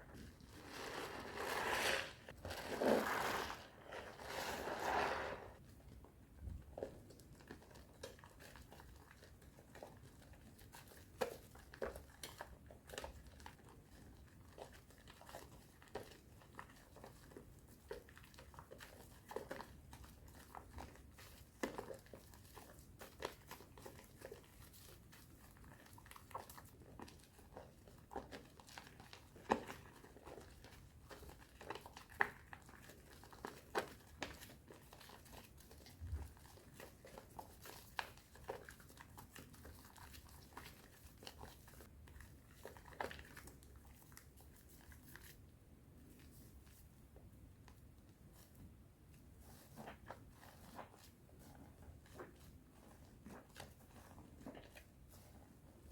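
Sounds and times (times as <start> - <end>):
soap foam crackling and squishing: 0.0 - 5.6, 6.8 - 55.9.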